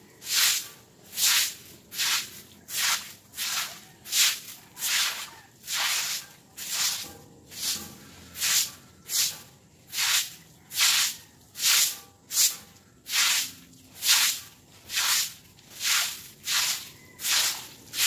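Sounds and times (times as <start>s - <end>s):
broom sweeping wet concrete: 0.1s - 18.0s.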